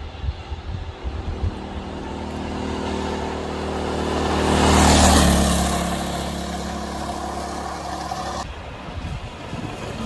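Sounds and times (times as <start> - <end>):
go-kart engine passing by: 0.3 - 8.5.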